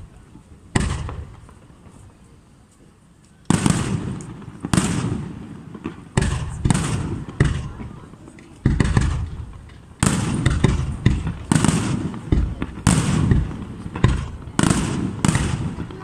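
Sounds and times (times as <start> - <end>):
small firework pops: 0.7 - 16.0.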